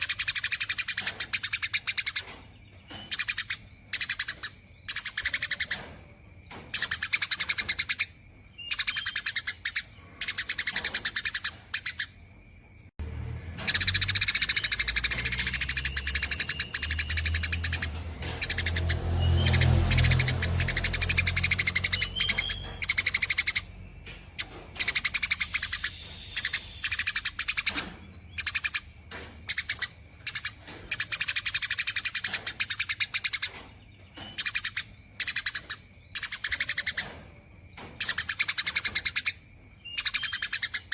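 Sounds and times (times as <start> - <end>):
sparrow chattering calls: 0.0 - 12.9, 13.6 - 40.9.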